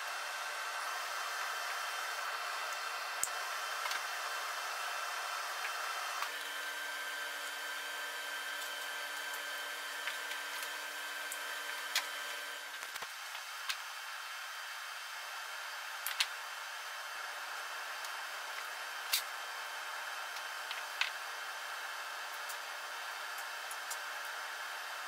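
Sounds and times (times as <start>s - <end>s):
workshop background hum and hiss: 0.0s - 25.0s.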